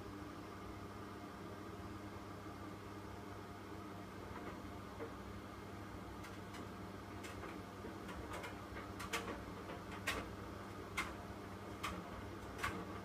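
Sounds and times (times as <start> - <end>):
washer-dryer humming: 0.0 - 13.0.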